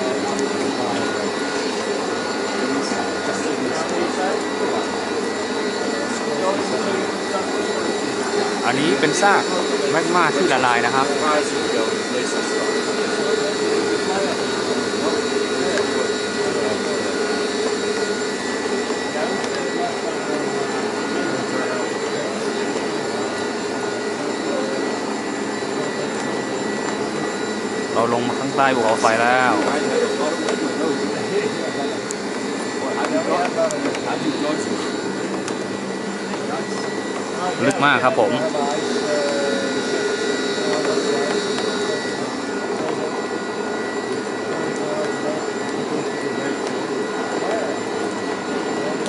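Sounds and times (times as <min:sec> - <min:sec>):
cable lift hoist whirring: 0:00.0 - 0:49.0
thin constant whine: 0:00.0 - 0:49.0.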